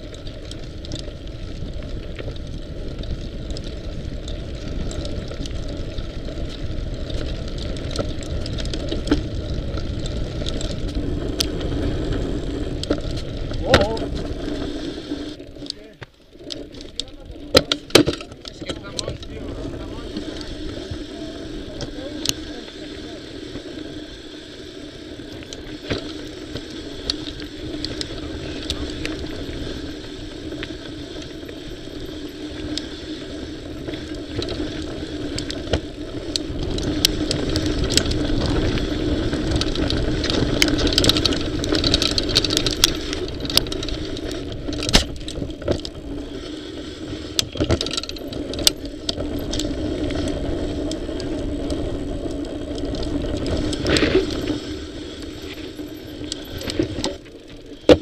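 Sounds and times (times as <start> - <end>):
bike rattles and clicks: 0.0 - 58.0
tyre and wind rumble: 0.0 - 58.0.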